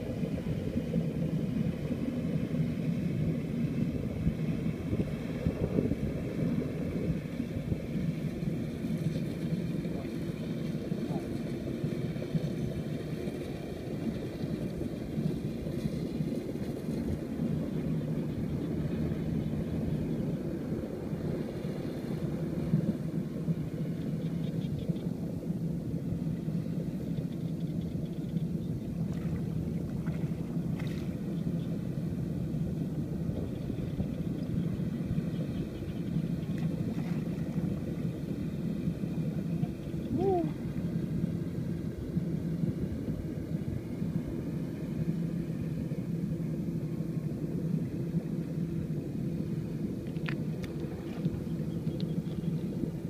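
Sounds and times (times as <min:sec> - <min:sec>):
faint constant hum: 0:00.0 - 0:53.0
low engine drone: 0:00.0 - 0:53.0.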